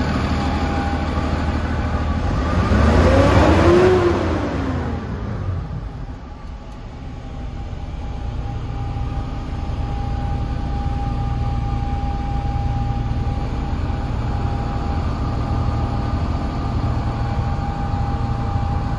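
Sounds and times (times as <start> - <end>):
thin steady whine: 0.0 - 3.1, 5.2 - 18.9
truck diesel engine drone: 0.0 - 18.9.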